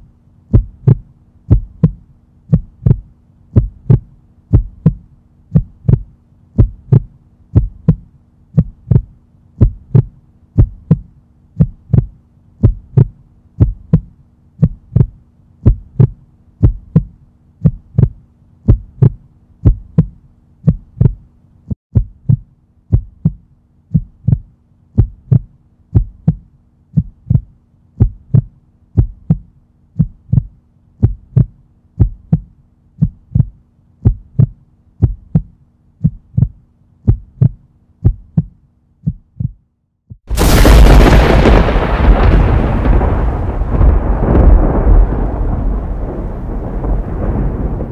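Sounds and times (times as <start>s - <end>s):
heartbeat-like double thumps: 0.0s - 45.5s
steady low hum: 0.0s - 47.9s.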